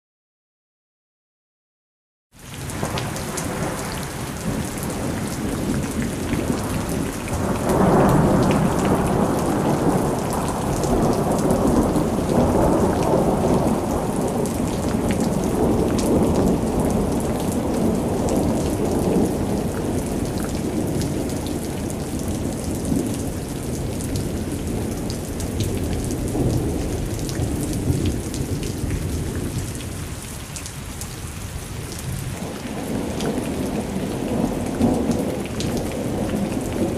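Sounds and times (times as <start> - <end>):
steady rain: 2.3 - 36.9
rolling thunder: 2.7 - 30.2, 32.0 - 36.9.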